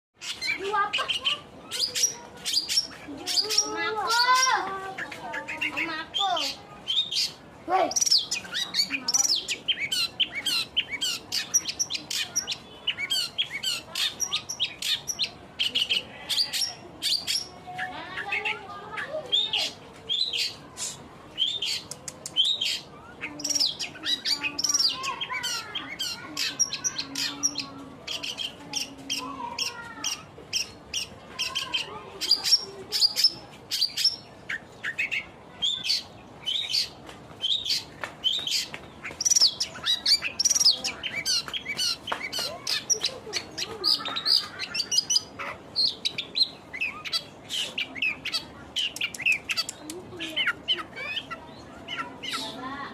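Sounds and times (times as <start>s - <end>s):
bird singing chirps and warbles: 0.2s - 52.9s.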